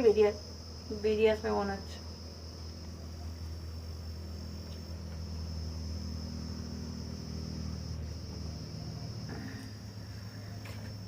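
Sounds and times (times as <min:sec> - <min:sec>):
crickets chirring: 0:00.0 - 0:11.0
low steady hum: 0:00.0 - 0:11.0.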